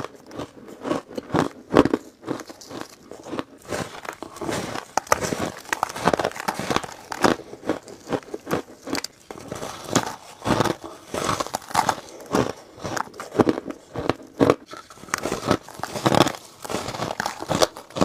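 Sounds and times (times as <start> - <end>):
ice crunching: 0.3 - 18.0.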